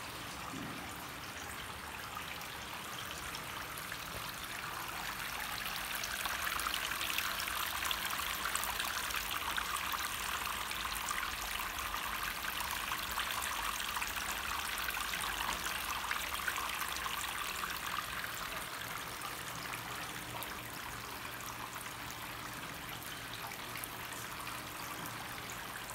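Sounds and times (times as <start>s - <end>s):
fountain water trickling and splashing: 0.0s - 25.9s.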